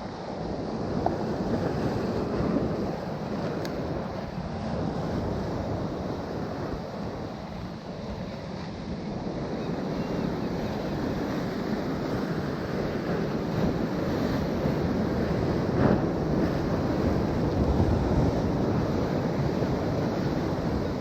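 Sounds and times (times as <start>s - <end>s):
sea surf washing: 0.0s - 21.0s
wind on microphone: 0.0s - 21.0s.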